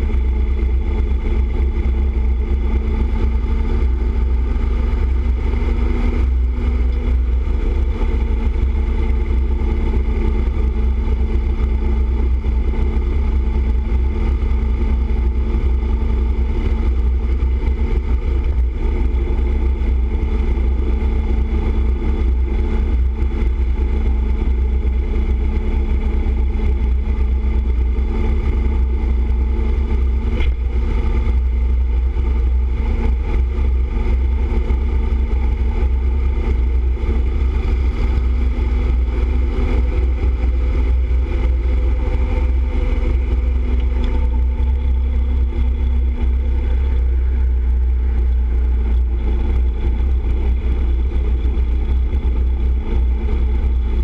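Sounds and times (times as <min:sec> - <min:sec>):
motorcycle engine drone: 0:00.0 - 0:54.0
road rumble: 0:00.0 - 0:54.0.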